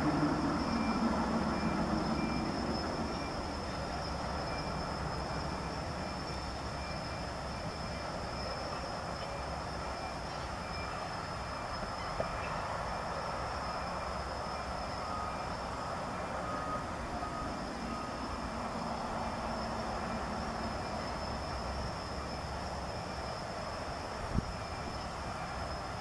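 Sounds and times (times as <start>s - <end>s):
faint steady high tone: 0.0s - 26.0s
low rumble and hiss: 0.0s - 26.0s.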